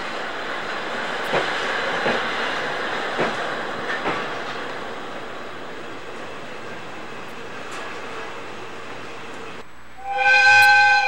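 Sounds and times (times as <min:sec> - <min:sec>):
wheels clacking over rail joints: 0:00.0 - 0:09.6
train rumbling past: 0:00.0 - 0:11.0.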